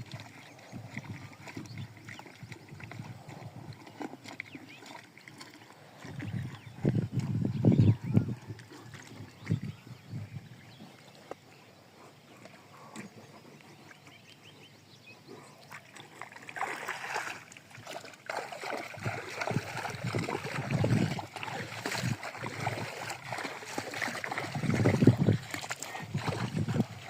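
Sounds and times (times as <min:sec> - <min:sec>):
water splashing and sloshing: 0:00.0 - 0:14.6, 0:15.2 - 0:27.0.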